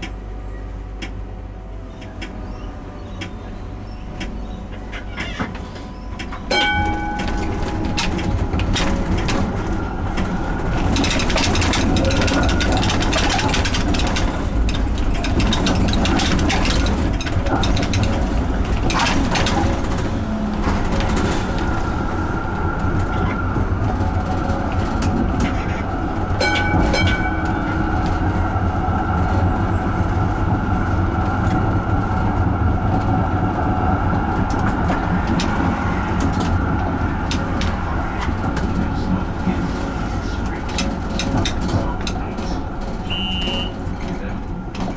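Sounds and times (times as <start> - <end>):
tram steady whine: 0.0 - 44.9
tram wheels clattering over rails: 0.0 - 44.9.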